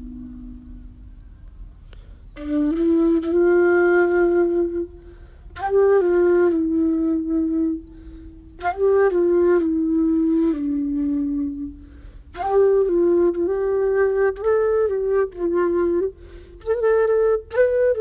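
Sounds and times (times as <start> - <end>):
solo flute: 0.0 - 18.0.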